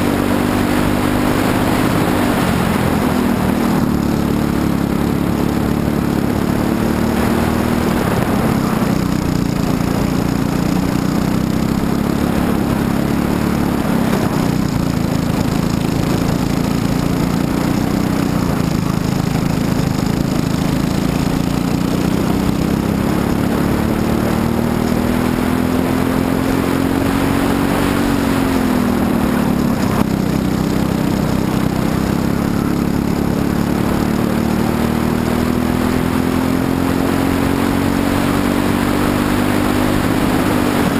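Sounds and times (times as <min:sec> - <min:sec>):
kart engine running: 0:00.0 - 0:40.9.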